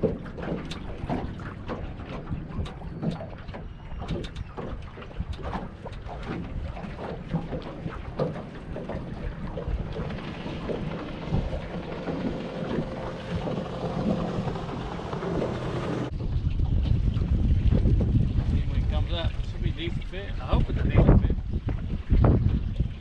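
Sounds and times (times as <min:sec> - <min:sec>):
water slapping against boat: 0:00.0 - 0:23.0
wind buffeting microphone: 0:00.0 - 0:23.0.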